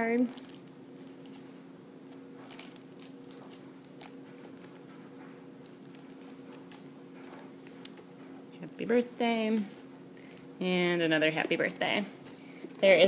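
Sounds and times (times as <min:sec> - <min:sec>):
steady low hum: 0:00.0 - 0:13.0
plastic sleeves crinkling: 0:00.2 - 0:08.0, 0:08.6 - 0:13.0.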